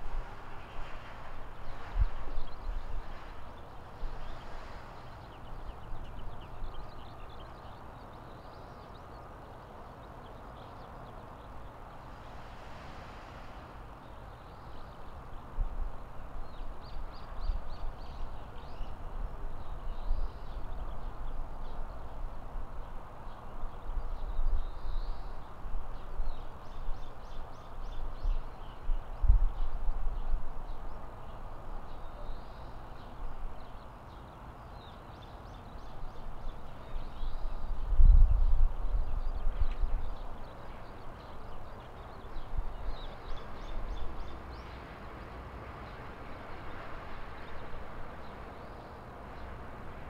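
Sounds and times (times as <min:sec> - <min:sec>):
small birds chirping: 0:00.0 - 0:50.0
steady background hiss: 0:00.0 - 0:50.0.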